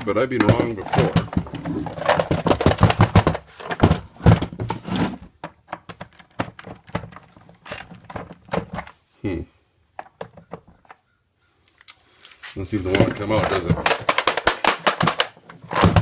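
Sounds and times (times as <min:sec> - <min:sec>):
hard parts clicking and clattering: 0:00.0 - 0:09.0, 0:09.9 - 0:11.1, 0:11.7 - 0:16.0.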